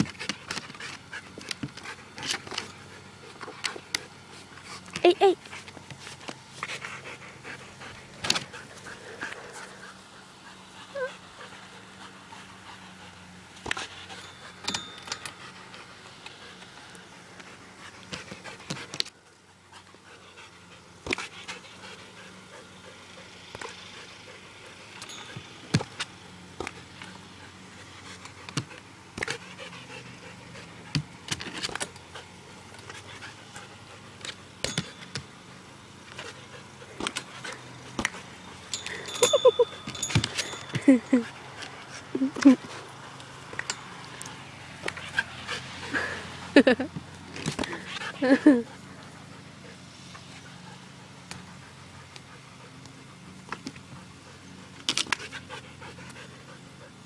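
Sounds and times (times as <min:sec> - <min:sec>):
dog panting: 0:00.0 - 0:26.0, 0:26.7 - 0:57.0.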